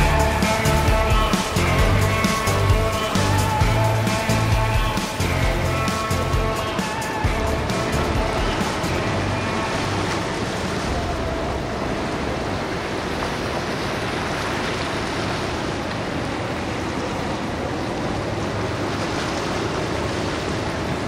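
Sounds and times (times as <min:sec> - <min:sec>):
low engine hum: 0:00.0 - 0:21.0
rush of water from boat wake: 0:00.0 - 0:21.0.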